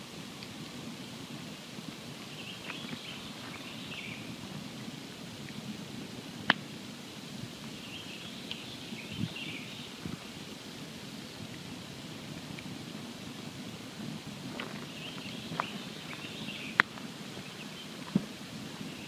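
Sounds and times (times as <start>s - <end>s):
campfire burning: 0.0s - 19.0s
fire crackles: 0.0s - 19.0s.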